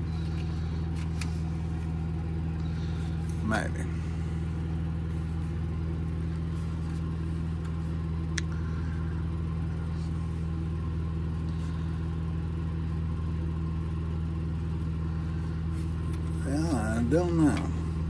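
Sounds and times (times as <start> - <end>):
low mechanical hum of machinery: 0.0 - 18.0.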